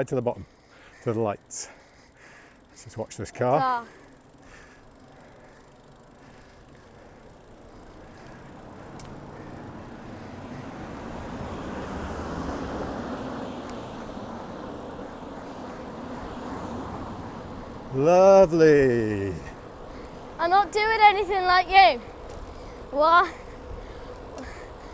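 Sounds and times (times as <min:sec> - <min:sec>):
car passing: 0:00.4 - 0:24.9.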